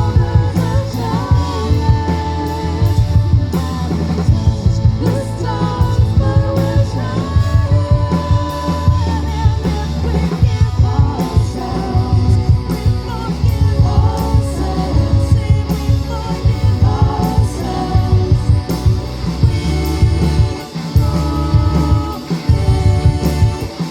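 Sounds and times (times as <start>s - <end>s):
drum kit beat: 0.0s - 23.9s
guitar: 0.0s - 23.9s
heavy bass: 0.0s - 23.9s
person singing: 0.0s - 23.9s.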